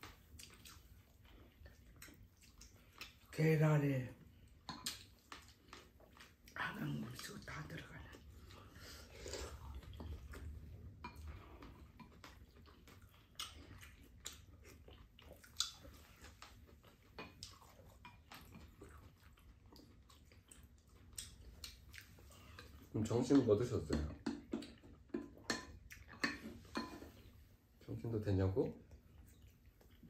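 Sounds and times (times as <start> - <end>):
chewing and mouth noises: 0.0 - 3.4, 4.1 - 27.8, 28.7 - 30.0.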